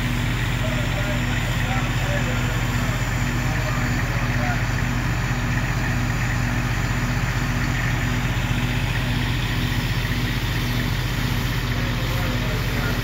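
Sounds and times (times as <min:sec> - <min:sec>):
fire engine pump engine droning: 0:00.0 - 0:13.0.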